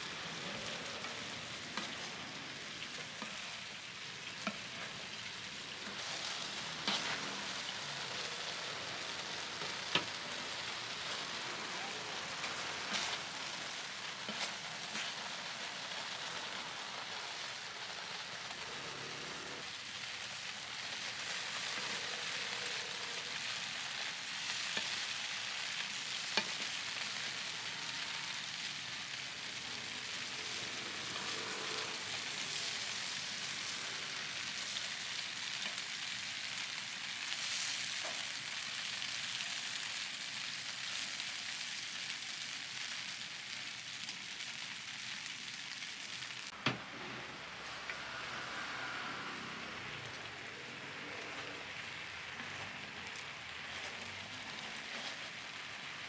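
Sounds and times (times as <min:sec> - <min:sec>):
water and oil sizzling: 0:00.0 - 0:56.0.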